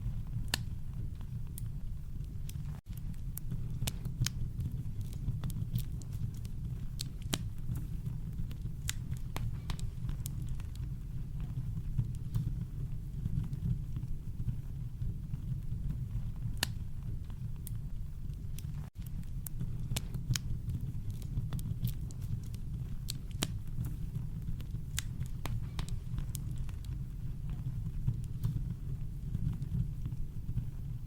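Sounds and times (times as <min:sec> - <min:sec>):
campfire crackling: 0:00.1 - 0:31.0.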